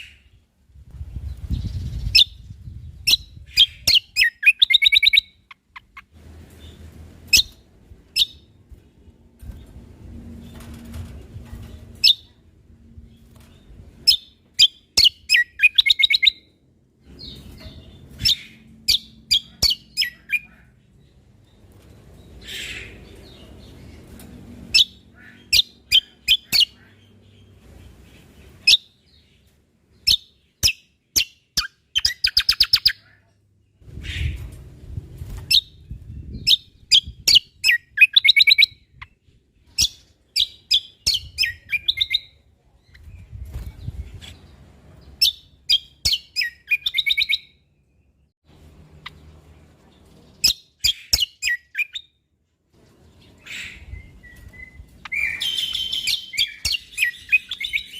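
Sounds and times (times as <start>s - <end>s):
bird chirping and trilling: 1.1s - 8.6s, 11.6s - 12.4s, 13.0s - 24.1s, 24.7s - 34.5s, 35.4s - 47.7s, 50.3s - 52.2s, 53.1s - 57.9s.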